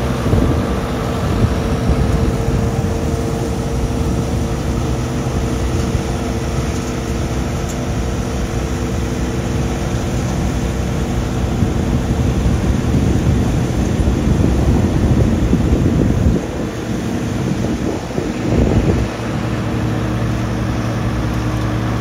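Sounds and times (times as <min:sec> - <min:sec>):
harvester machinery droning: 0:00.0 - 0:22.0.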